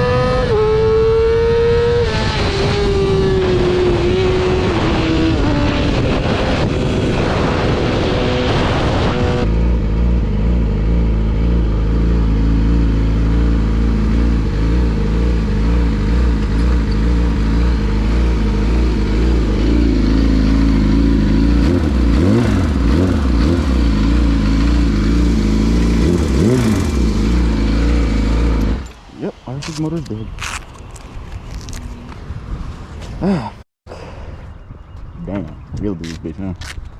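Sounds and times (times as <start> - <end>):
motorcycle at speed: 0.0 - 33.3.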